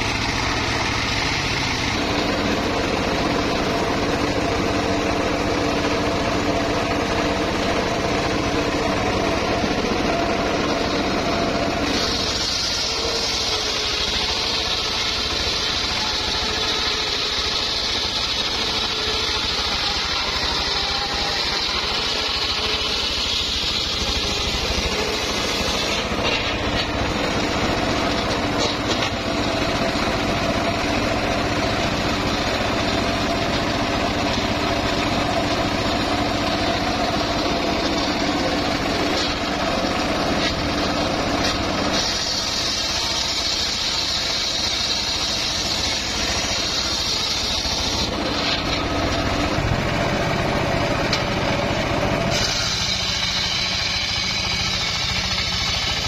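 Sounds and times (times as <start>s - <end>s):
circular saw motor running: 0.0s - 56.0s
saw blade cutting log: 0.0s - 56.0s.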